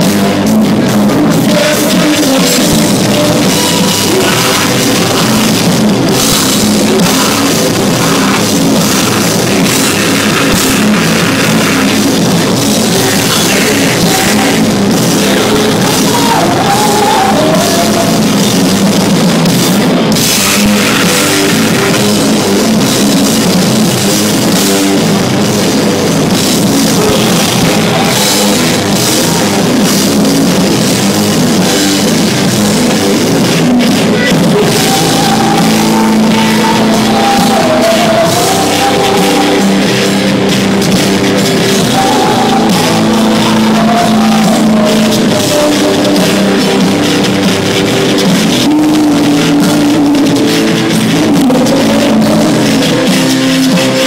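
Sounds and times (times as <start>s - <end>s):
bass guitar: 0.0s - 54.0s
distorted electric guitars: 0.0s - 54.0s
drum kit: 0.0s - 54.0s.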